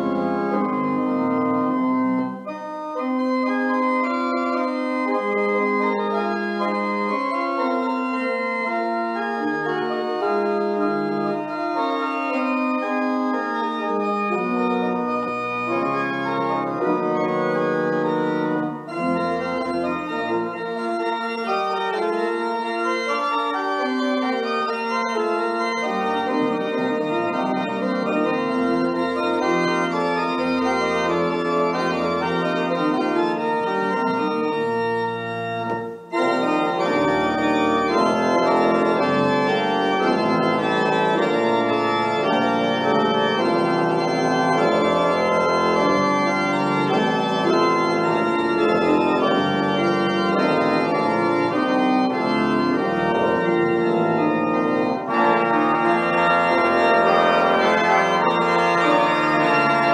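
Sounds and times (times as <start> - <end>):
church organ chords: 0.0 - 59.9
deep organ pedal bass notes: 0.0 - 59.9.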